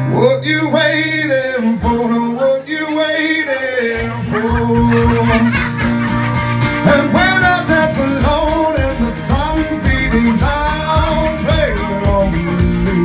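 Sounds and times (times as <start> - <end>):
man singing into microphone: 0.0 - 5.8, 6.8 - 13.0
strummed acoustic guitar: 0.0 - 13.0.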